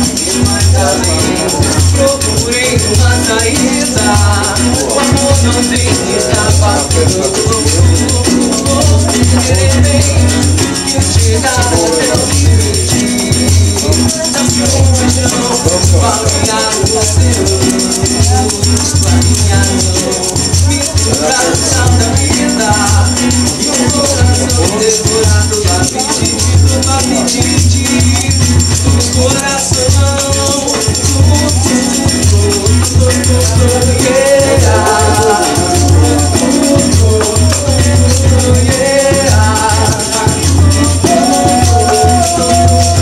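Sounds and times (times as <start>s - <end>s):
hand drum beat: 0.0s - 43.0s
person singing: 0.0s - 43.0s
shaker: 0.0s - 43.0s
strummed acoustic guitar: 0.0s - 43.0s.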